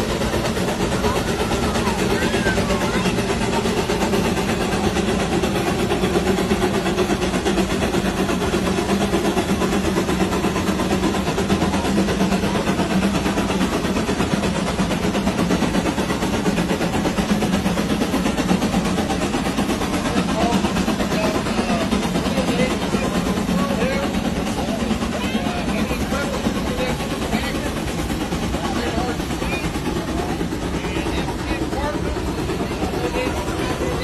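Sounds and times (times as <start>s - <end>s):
steam traction engine running: 0.0s - 34.0s.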